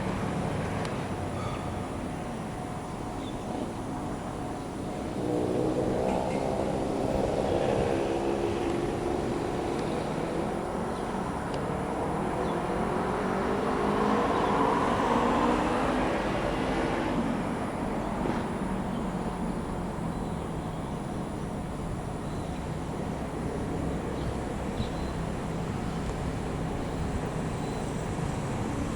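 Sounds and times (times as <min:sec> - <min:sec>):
diesel locomotive engine rumble: 0:00.0 - 0:28.9.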